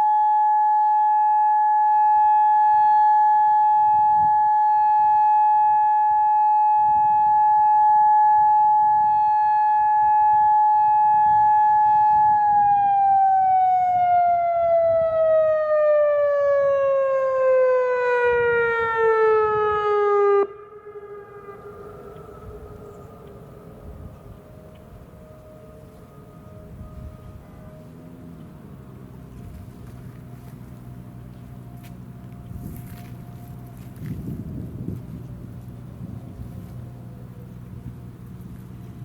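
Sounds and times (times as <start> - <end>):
warning siren winding down: 0.0 - 39.0.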